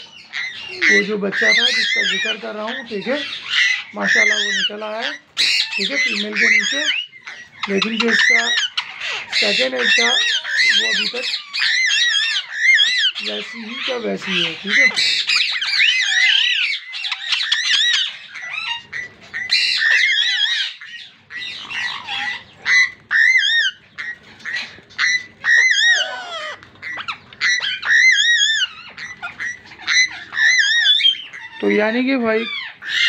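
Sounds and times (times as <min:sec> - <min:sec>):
parakeets squawking: 0:00.0 - 0:33.0.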